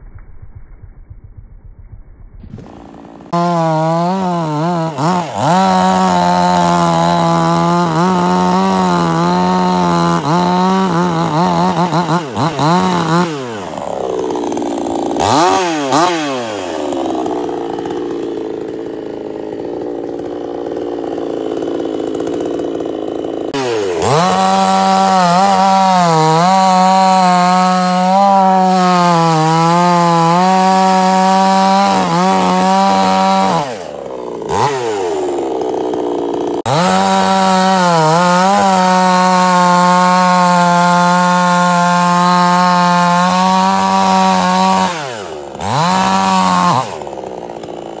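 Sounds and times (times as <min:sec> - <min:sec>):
chainsaw cutting wood: 0:02.5 - 0:48.0.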